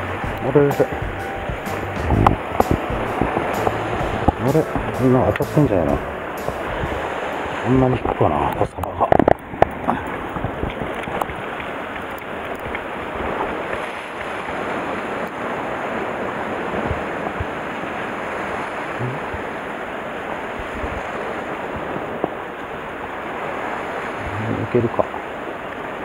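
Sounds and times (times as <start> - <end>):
surf on rocky shore: 0.0 - 26.0.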